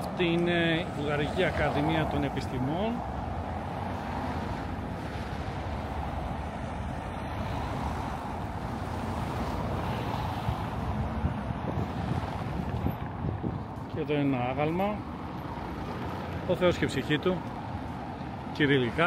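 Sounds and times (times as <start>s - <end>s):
street traffic noise: 0.0s - 19.0s
wind rumbling on microphone: 0.8s - 16.5s.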